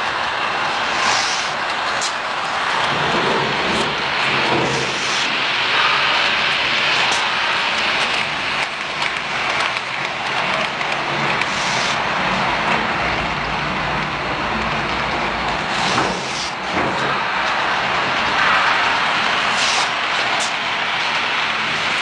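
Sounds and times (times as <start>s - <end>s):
model trains whirring on track: 0.0s - 22.0s.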